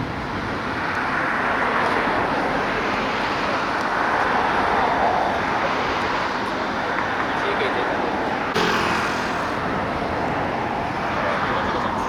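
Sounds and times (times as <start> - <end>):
rushing vehicle noise: 0.0 - 12.0.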